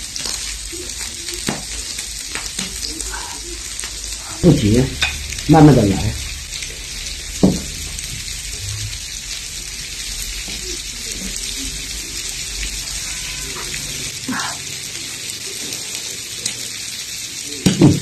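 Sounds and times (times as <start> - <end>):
faint voices: 0.0 - 18.0
food sizzling on a grill: 0.0 - 18.0.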